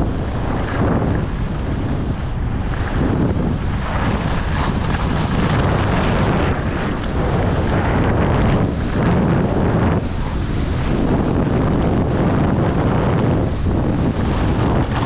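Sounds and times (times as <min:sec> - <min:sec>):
wind buffeting microphone: 0:00.0 - 0:15.0
skis hissing over packed snow: 0:02.6 - 0:15.0.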